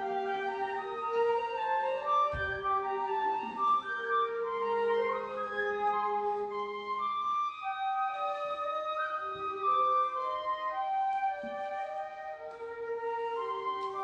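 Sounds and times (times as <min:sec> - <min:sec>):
flutes playing held notes: 0:00.0 - 0:14.0.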